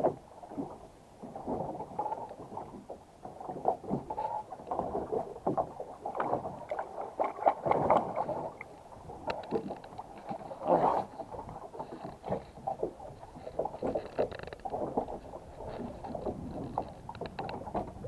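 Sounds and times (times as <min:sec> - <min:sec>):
scraping and sloshing: 0:03.5 - 0:18.0.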